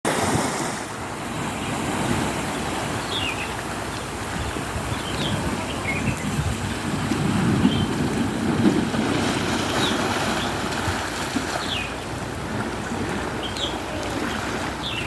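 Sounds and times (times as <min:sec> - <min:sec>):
sea waves washing: 0:00.0 - 0:15.0
wind on microphone: 0:00.1 - 0:15.0.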